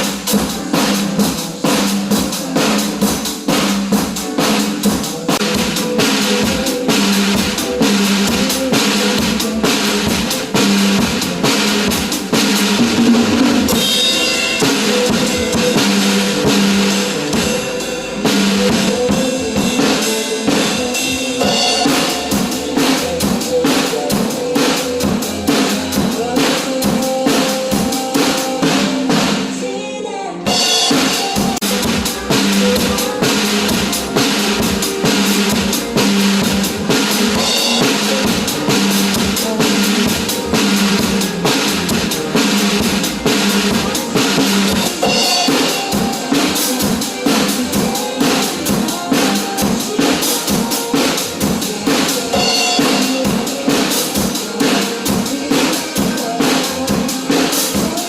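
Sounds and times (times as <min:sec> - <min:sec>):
drum kit beat: 0:00.0 - 0:29.8, 0:30.4 - 0:58.0
recorded pop song: 0:00.0 - 0:58.0.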